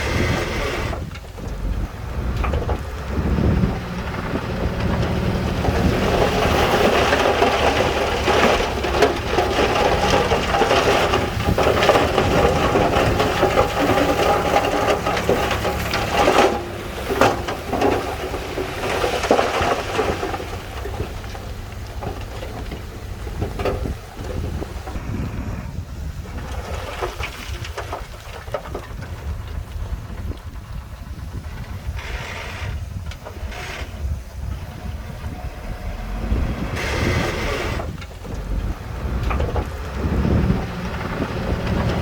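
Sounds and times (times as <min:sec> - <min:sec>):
diesel engine running: 0:00.0 - 0:42.0
gritty crackling rumble of stone: 0:00.0 - 0:42.0.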